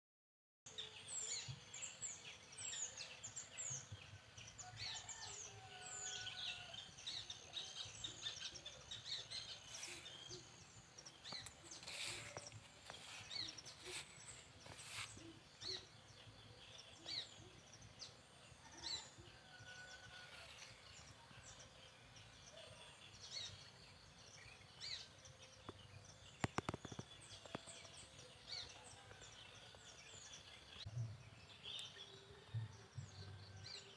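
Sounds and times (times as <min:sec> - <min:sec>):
birds chirping: 0:00.7 - 0:20.2, 0:20.9 - 0:33.9.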